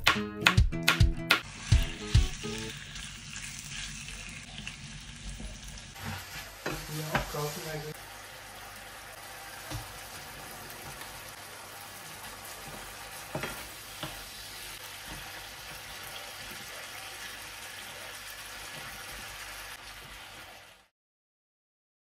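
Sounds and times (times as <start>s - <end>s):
chicken sizzling in a frying pan: 1.4s - 20.9s.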